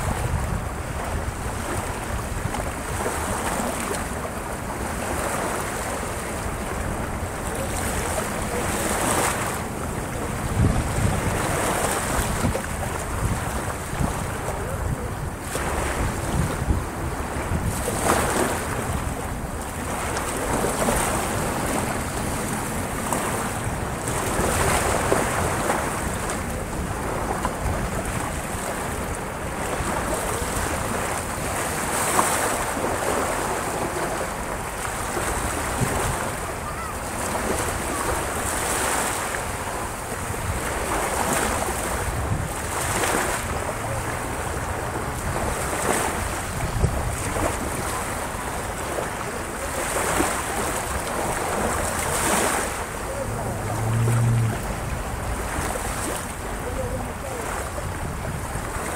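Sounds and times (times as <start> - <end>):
small waves breaking on beach: 0.0 - 58.9
wind rumbling on microphone: 0.0 - 58.9.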